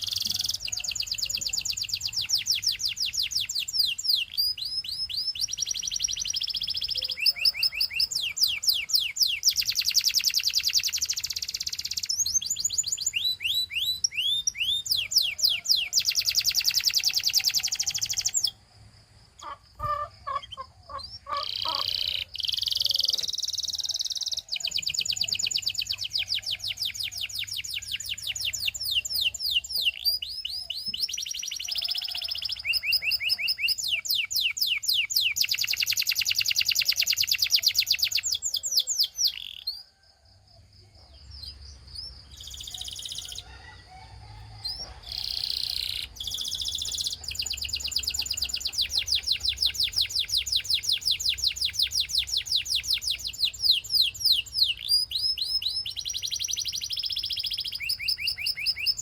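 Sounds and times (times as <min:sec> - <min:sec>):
canary singing trills: 0:00.0 - 0:18.7, 0:19.3 - 0:40.0, 0:41.0 - 0:59.0.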